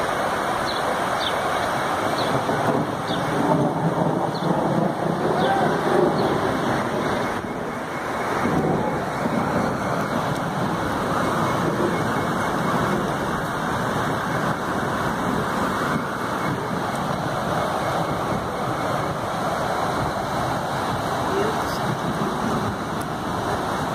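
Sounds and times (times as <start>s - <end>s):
rainstorm rushing: 0.0s - 23.9s
wind on microphone: 0.0s - 23.9s.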